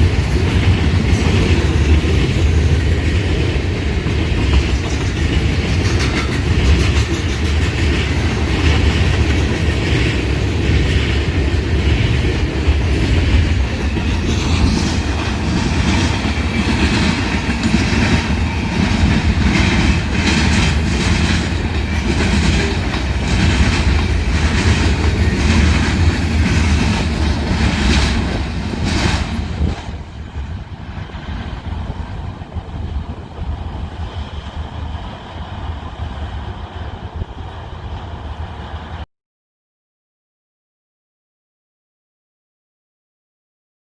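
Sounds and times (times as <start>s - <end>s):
train wheels clacking on rails: 0.0s - 39.0s
train rumble: 0.0s - 39.1s.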